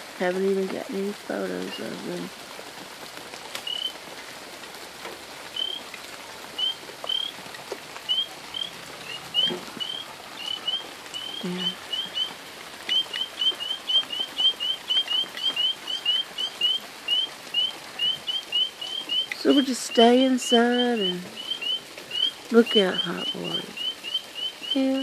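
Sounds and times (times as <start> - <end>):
faint hiss of rain: 0.0 - 25.0
frogs peeping: 3.5 - 4.0, 5.4 - 25.0.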